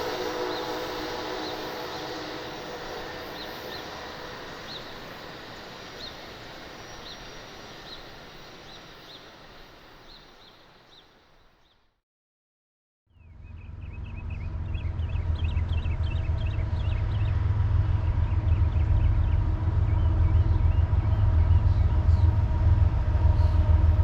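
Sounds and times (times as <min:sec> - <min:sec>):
passenger train rumbling: 0:00.0 - 0:10.1, 0:13.7 - 0:24.0.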